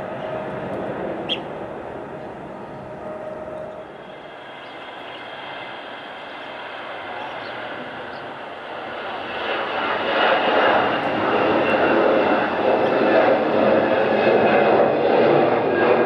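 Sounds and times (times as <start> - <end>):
distant jet engines rumbling: 0.0 - 16.0
faint engine whine: 0.0 - 16.0.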